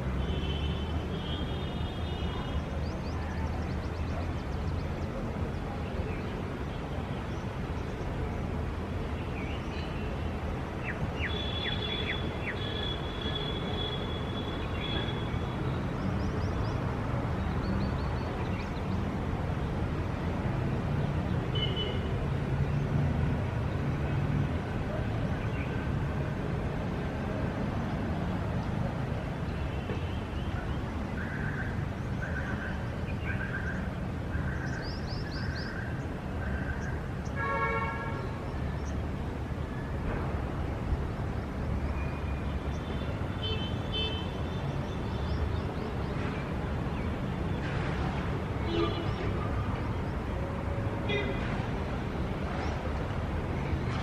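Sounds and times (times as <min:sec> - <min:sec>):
low traffic rumble: 0:00.0 - 0:54.0.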